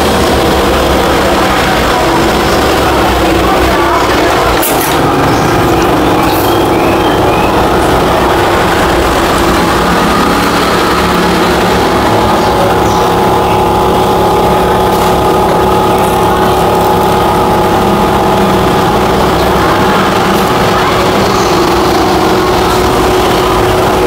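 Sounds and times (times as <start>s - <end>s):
workshop machinery drone: 0.0s - 24.0s.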